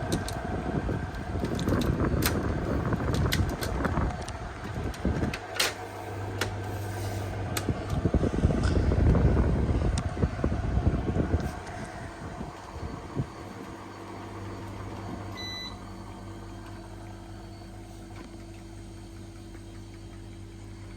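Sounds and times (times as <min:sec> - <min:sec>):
air conditioner hum and whir: 0:00.0 - 0:20.9
deeper hum: 0:00.0 - 0:20.9.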